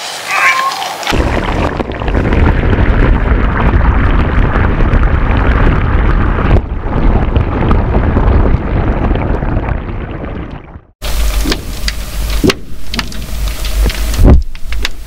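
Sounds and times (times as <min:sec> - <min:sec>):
underwater rushing water: 0:00.0 - 0:15.0.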